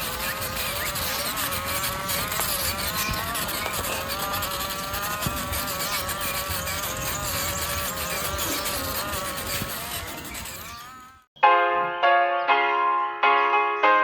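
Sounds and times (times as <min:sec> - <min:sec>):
small motor buzzing whine: 0:00.0 - 0:11.3.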